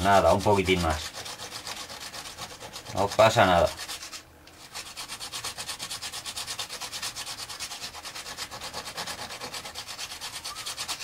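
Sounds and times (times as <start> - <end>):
brush scratching on abrasive disc: 0.0 - 11.0.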